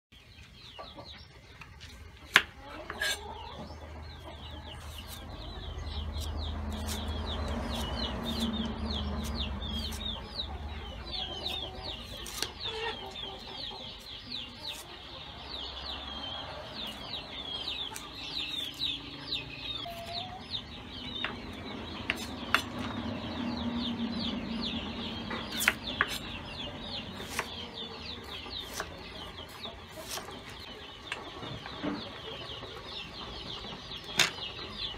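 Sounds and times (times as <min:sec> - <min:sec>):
chickens chirping: 0:00.1 - 0:34.9.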